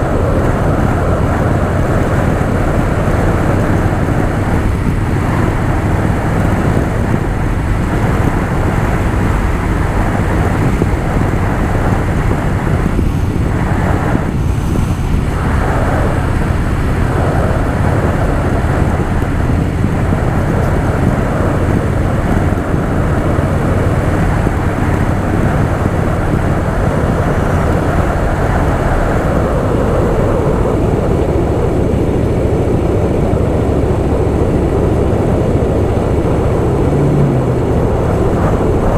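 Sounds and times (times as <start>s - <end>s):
motorcycle engine cruising: 0.0s - 38.9s
road and wind rush: 0.0s - 38.9s.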